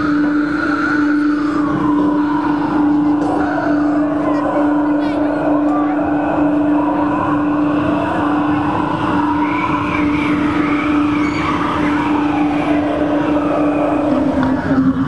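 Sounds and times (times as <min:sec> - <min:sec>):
low musical drone: 0:00.0 - 0:15.0
wavering higher tones: 0:00.0 - 0:15.0.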